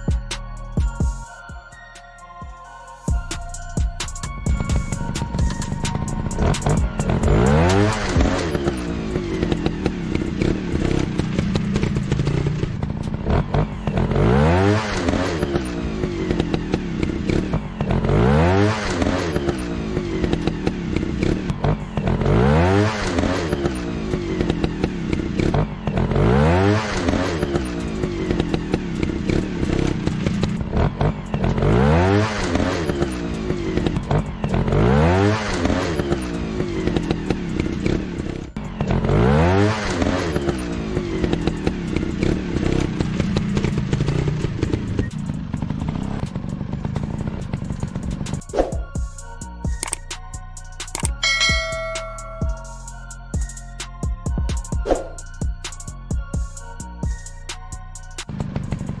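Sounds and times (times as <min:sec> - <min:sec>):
low engine drone: 0:03.1 - 0:53.8
motorcycle engines revving: 0:03.6 - 0:59.0.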